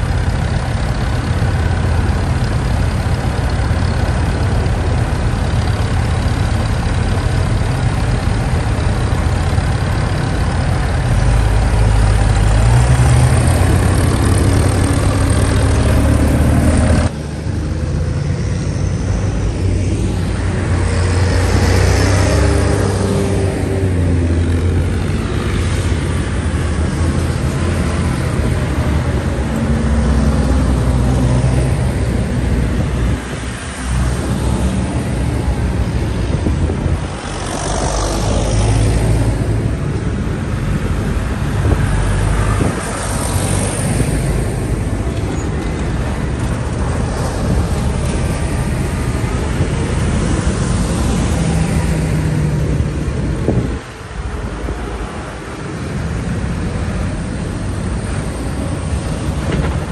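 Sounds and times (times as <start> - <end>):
tractors driving past: 0.0 - 59.9.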